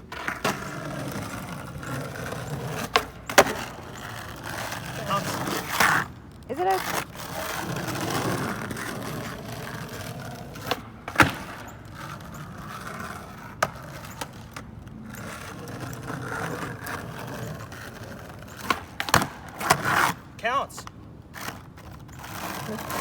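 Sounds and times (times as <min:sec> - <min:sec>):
skateboard clacking on ground: 0:00.0 - 0:23.0
skateboard wheels rolling on pavement: 0:00.0 - 0:23.0.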